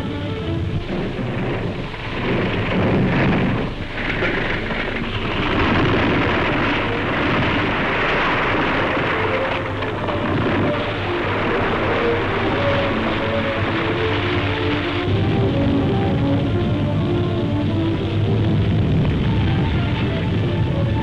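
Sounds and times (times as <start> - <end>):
faint music tones: 0.0 - 21.0
rumbling and rushing noise: 0.0 - 21.0.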